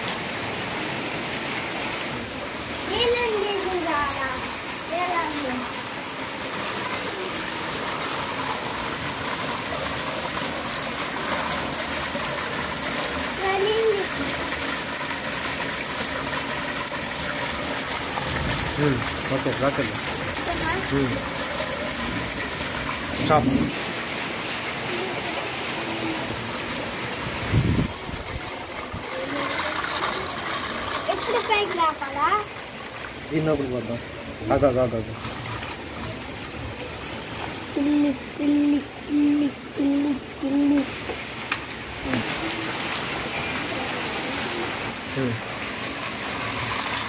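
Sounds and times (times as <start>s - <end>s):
heavy rain on concrete: 0.0s - 47.0s
water gushing from pipe: 0.0s - 47.0s.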